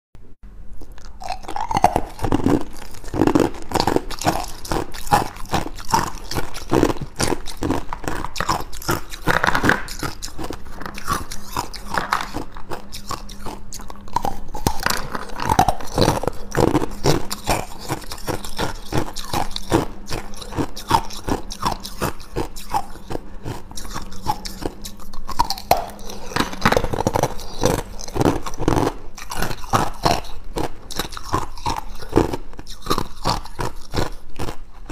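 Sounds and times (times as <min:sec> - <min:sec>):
ice cubes crunching in teeth: 0:00.8 - 0:34.9.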